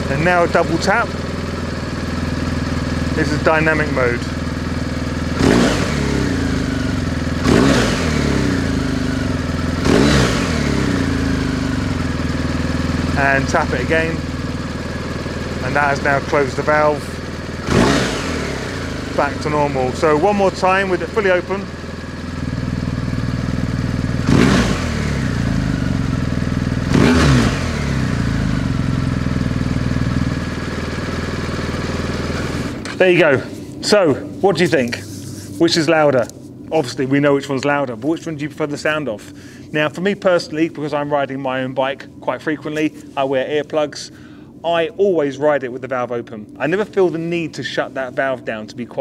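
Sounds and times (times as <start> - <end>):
motorcycle engine idling and revving: 0.0 - 49.0.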